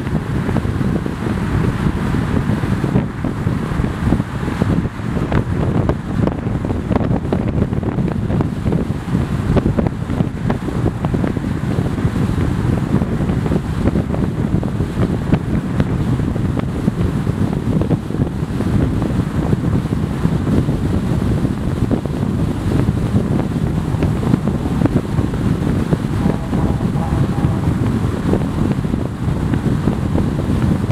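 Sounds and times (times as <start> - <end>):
car rumble at highway speed: 0.0 - 30.9
wind buffeting microphone: 0.0 - 30.9.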